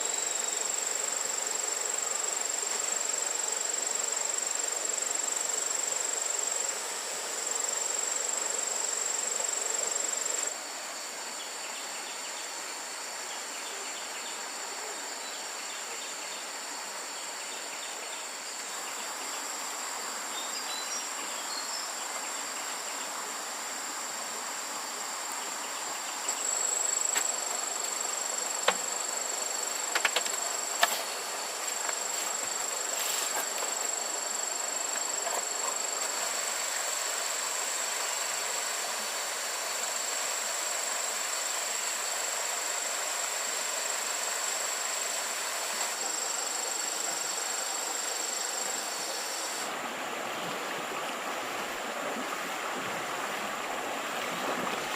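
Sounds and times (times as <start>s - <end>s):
high-pitched insect chorus: 0.0s - 54.8s.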